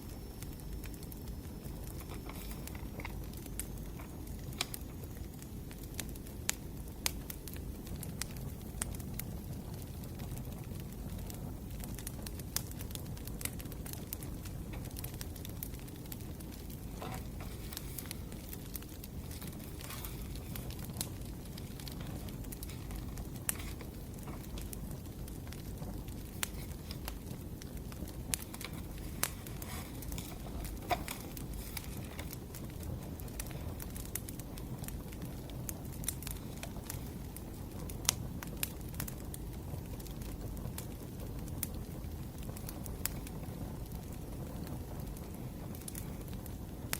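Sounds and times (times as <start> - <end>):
fire crackles and pops: 0.0 - 46.9
flames rumbling: 0.0 - 46.9.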